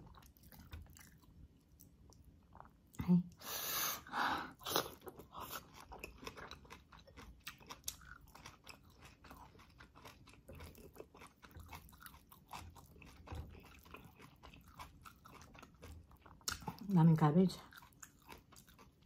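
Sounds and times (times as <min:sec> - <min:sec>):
chewing rice: 0:00.0 - 0:03.0, 0:04.6 - 0:16.9, 0:17.6 - 0:19.0.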